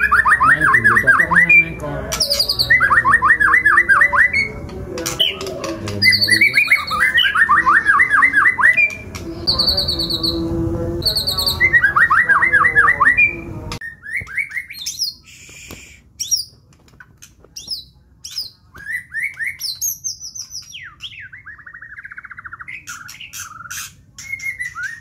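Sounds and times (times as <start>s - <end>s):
songbird singing whistles and trills: 0.0s - 4.6s, 5.2s - 16.6s, 17.6s - 25.0s.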